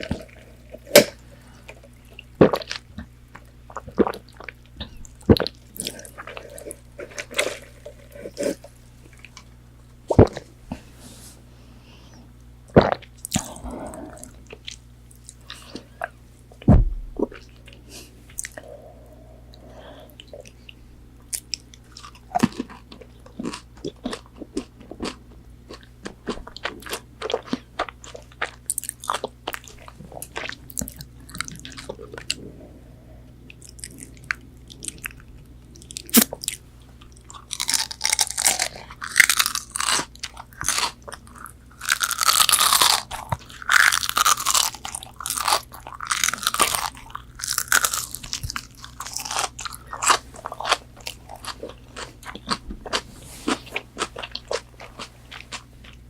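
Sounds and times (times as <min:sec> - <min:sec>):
person chewing crunchy food: 0:00.0 - 0:09.5, 0:12.7 - 0:56.0.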